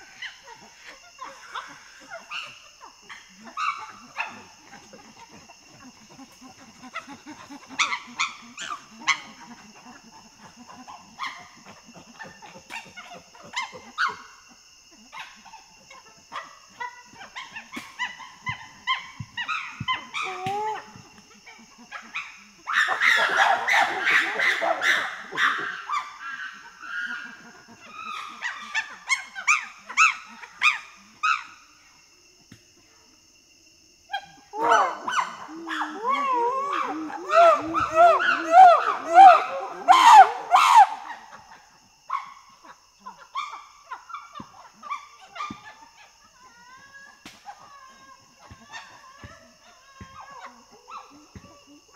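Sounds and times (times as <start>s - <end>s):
chimpanzees screaming: 0.0s - 31.6s, 34.1s - 51.9s
chimpanzees calling and barking: 0.0s - 51.9s.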